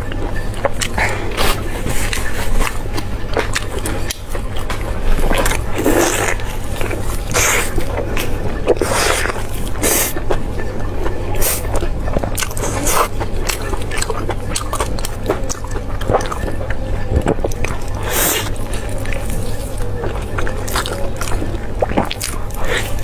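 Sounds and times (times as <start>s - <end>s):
steady low hum: 0.0s - 23.0s
wet chewing: 0.0s - 23.0s.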